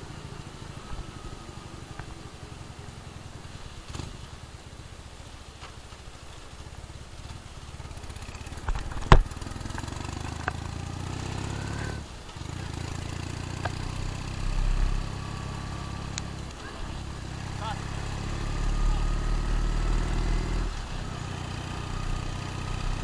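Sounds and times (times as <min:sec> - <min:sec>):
motorcycle engine rumbling: 0:00.0 - 0:23.0.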